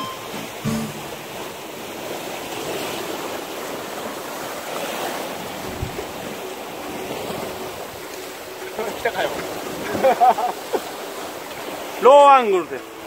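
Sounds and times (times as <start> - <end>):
rough sea washing against rocks: 1.0 - 13.0.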